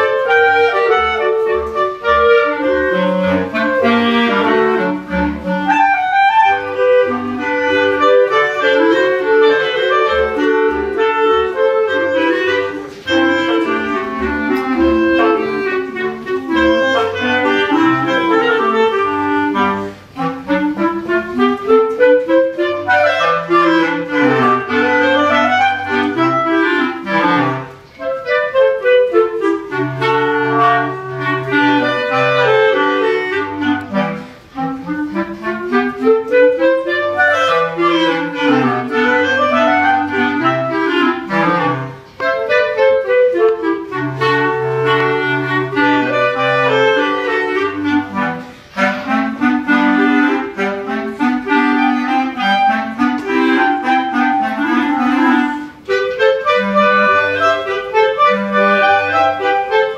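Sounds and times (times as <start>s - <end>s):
bass clarinet low line: 0.0s - 59.9s
clarinets playing: 0.0s - 59.9s.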